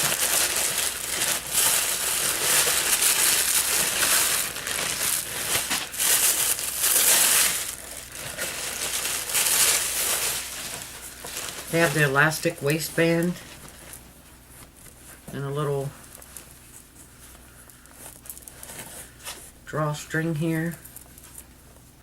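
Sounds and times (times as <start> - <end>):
packaging crinkling: 0.0 - 15.3, 16.0 - 19.6.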